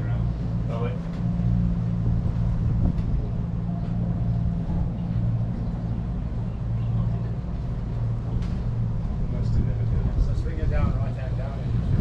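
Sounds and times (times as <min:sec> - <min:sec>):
boat engine low hum: 0:00.0 - 0:12.0.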